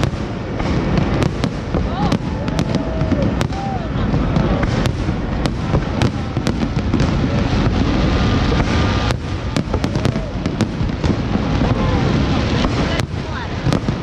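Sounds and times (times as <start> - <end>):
fireworks crackles and pops: 0.0 - 14.0
fireworks rumbling bursts: 0.0 - 14.0.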